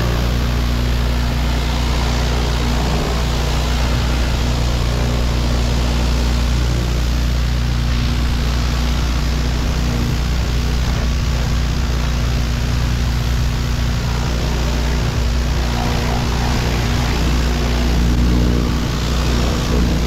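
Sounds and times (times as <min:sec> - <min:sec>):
high-pressure water spray hiss: 0:00.0 - 0:20.0
pressure washer engine running: 0:00.0 - 0:20.0.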